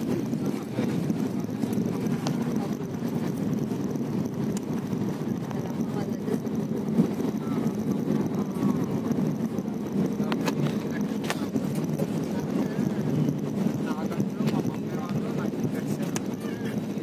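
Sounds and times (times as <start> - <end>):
airliner engine drone in cabin: 0.0 - 17.0.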